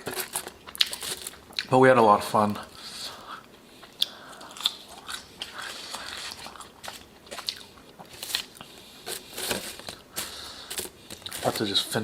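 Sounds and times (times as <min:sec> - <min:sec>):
chewing french fries: 0:00.0 - 0:01.7, 0:02.7 - 0:12.0.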